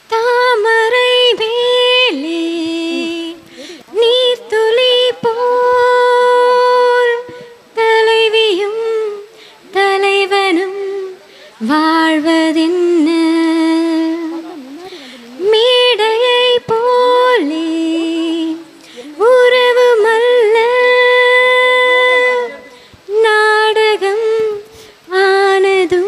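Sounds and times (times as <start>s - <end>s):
woman singing unaccompanied: 0.0s - 26.0s.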